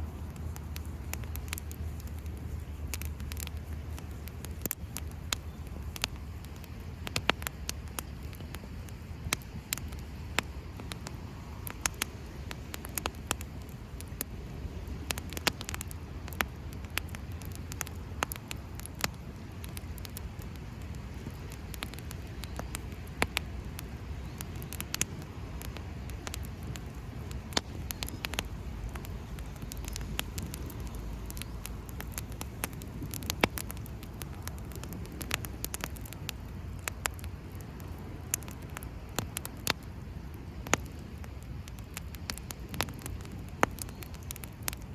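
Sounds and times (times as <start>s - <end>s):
sharp pops: 0.0s - 14.3s, 15.0s - 39.9s
campfire crackling: 0.0s - 44.9s
low steady rumble: 0.0s - 44.9s.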